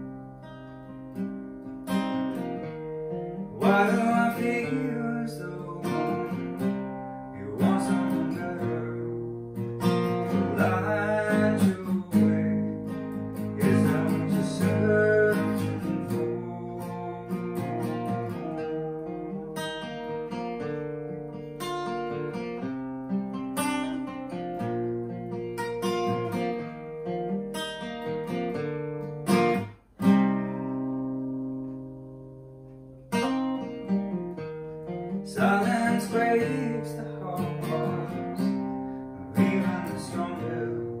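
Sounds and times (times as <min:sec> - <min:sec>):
acoustic guitar playing chords: 0:00.0 - 0:41.0.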